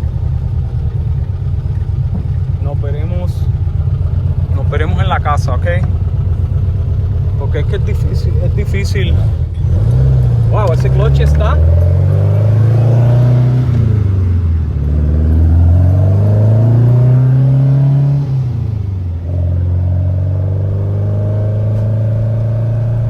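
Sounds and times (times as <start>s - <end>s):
car engine accelerating through gears: 3.9s - 23.0s.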